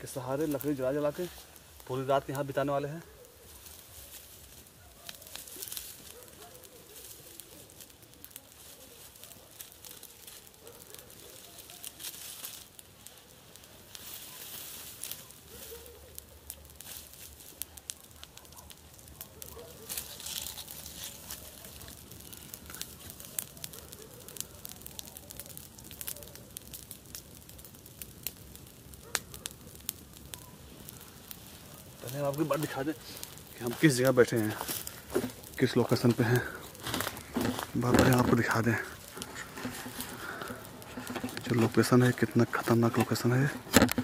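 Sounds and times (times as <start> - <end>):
campfire crackling and popping: 0.0 - 44.0
fire hissing: 0.0 - 44.0.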